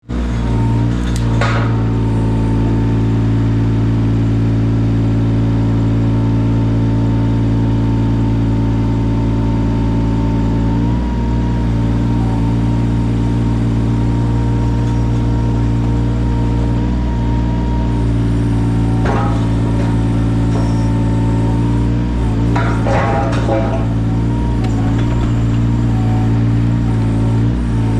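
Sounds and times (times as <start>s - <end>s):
diesel excavator engine running: 0.0s - 27.9s.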